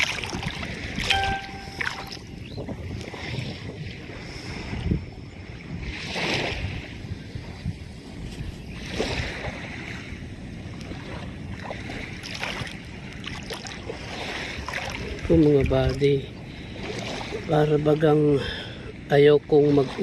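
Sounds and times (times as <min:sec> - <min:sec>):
small waves washing ashore: 0:00.0 - 0:20.0
wind rumbling on microphone: 0:00.0 - 0:20.0.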